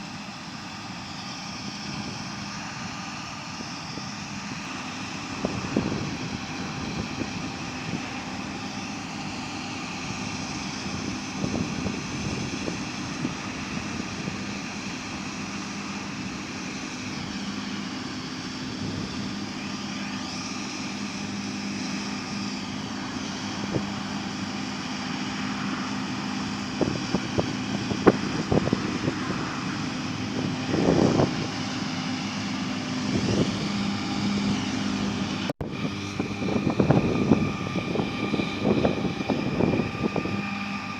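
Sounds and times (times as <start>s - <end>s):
diesel engine drone: 0.0s - 40.9s
high mechanical whine: 0.0s - 40.9s.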